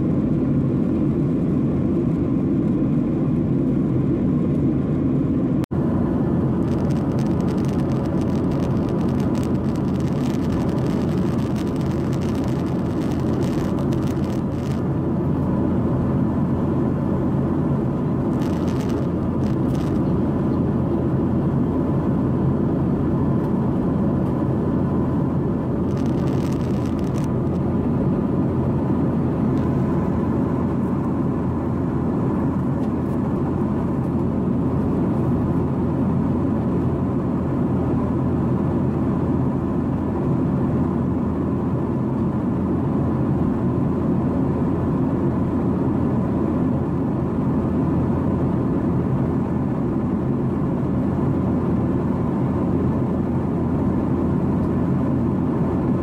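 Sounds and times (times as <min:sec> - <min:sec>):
airplane cabin drone: 0:00.0 - 0:56.0
faint steady hum: 0:00.0 - 0:56.0.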